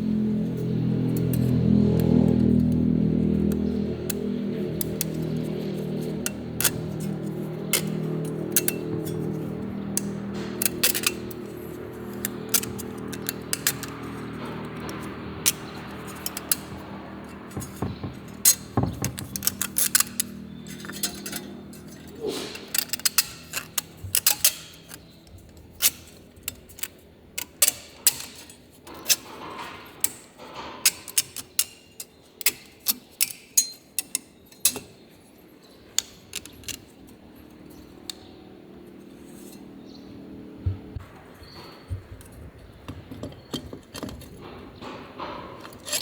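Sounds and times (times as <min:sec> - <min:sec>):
metal parts clinking: 0:01.1 - 0:38.3, 0:41.0 - 0:46.0.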